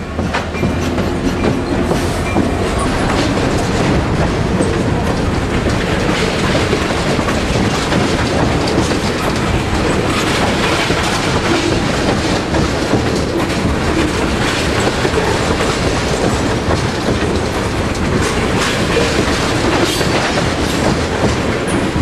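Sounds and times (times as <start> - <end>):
train wheels rumbling on rail: 0.0 - 22.0
wheels clacking over rail joints: 0.0 - 22.0.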